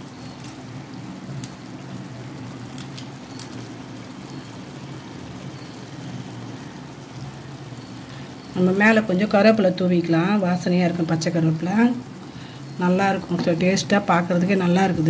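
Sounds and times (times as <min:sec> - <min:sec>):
masala sizzling in pan: 0:00.0 - 0:15.0.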